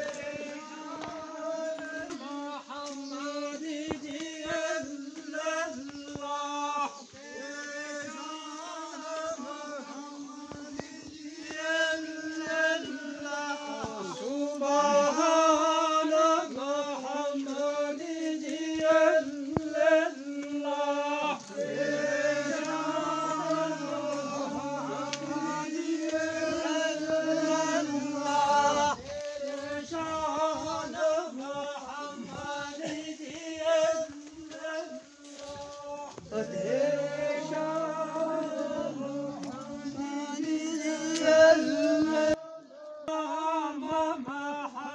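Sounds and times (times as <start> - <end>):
man chanting: 0.0 - 44.9.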